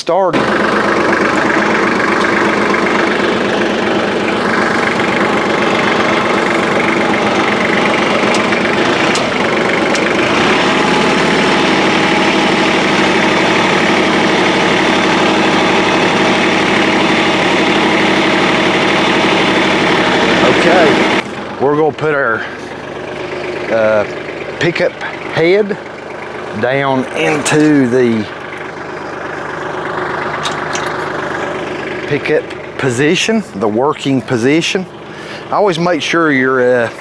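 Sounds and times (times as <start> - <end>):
tractor diesel engine idling: 0.0 - 37.0.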